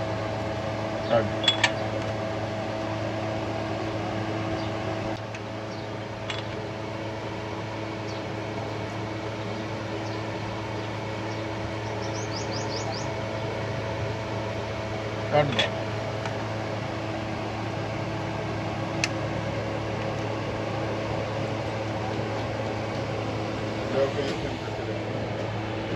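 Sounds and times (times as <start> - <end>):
mechanical hum: 0.0 - 25.9.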